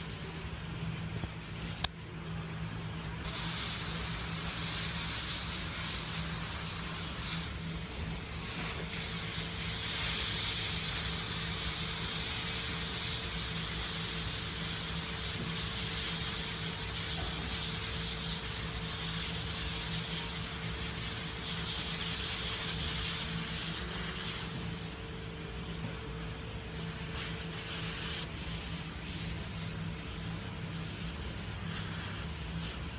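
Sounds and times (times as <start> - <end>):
compressed air hiss: 0.0 - 32.9.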